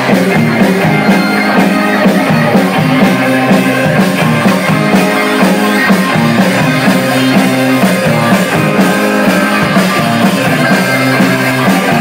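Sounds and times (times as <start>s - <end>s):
drum kit steady beat: 0.0s - 12.0s
electric guitars: 0.0s - 12.0s.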